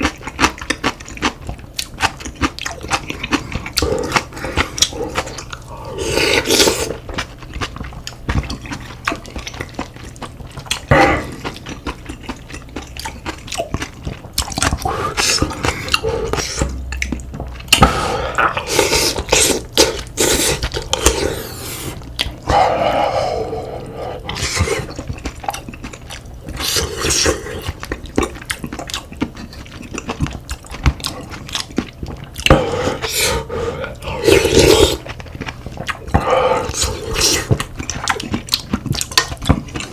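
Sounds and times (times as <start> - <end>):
slurping and chewing: 0.0 - 39.9.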